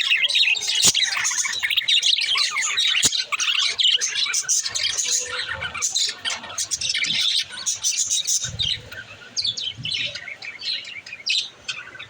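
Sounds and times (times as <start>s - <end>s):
budgerigars chattering and chirping: 0.0s - 12.0s.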